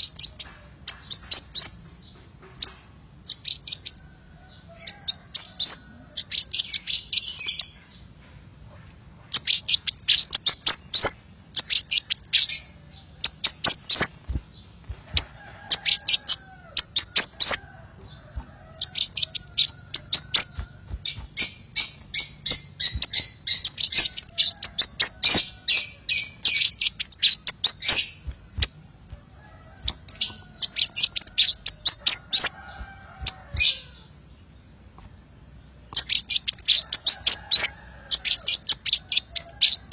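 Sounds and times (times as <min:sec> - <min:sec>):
sunbird chirps and trills: 0:00.0 - 0:39.9.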